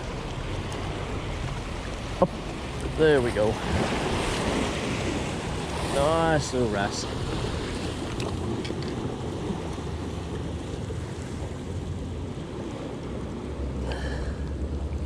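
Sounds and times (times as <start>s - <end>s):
sea waves washing over rocks: 0.0s - 15.0s
wind rumbling on microphone: 0.0s - 15.0s.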